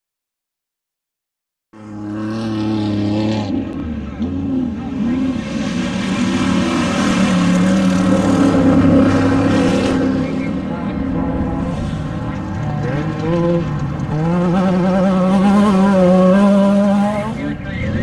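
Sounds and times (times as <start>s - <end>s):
off-road vehicle engine revving: 1.8s - 18.0s.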